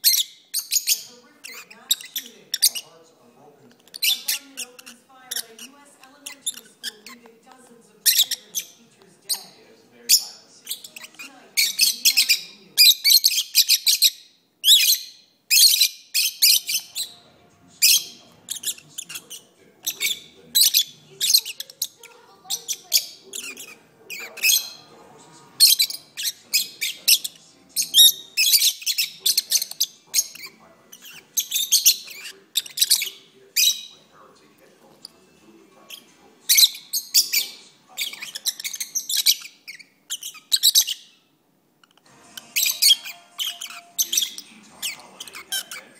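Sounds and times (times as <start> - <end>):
birds chirping and squeaking: 0.0 - 45.9.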